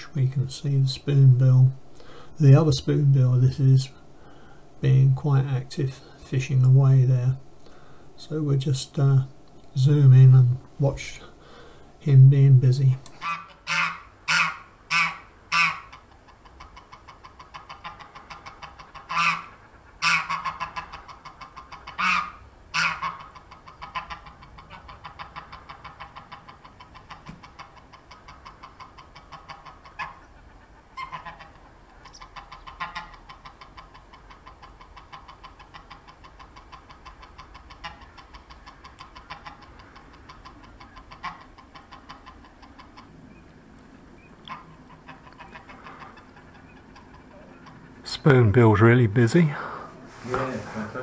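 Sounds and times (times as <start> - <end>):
geese honking: 7.7 - 50.1.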